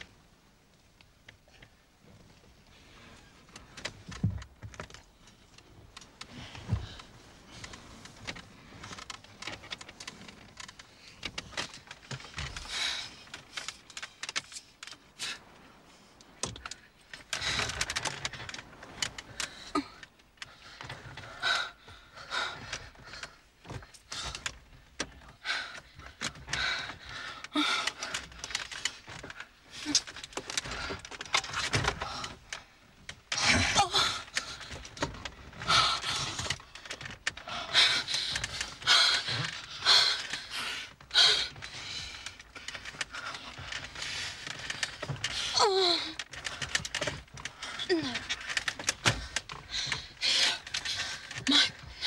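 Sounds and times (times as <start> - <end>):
clicking and rattling: 3.4 - 52.0.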